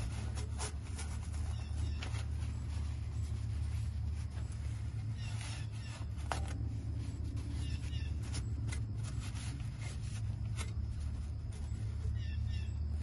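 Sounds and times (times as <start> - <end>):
paper towel wiping a pipe: 0.0 - 13.0
steady low hum: 0.0 - 13.0
faint bird chirps: 1.0 - 10.3, 10.9 - 13.0.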